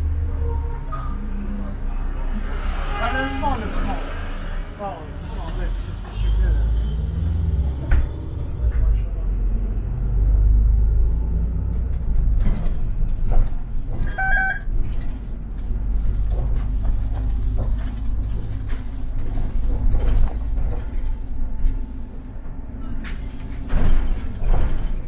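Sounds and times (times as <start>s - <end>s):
bus engine rumble: 0.0s - 25.0s.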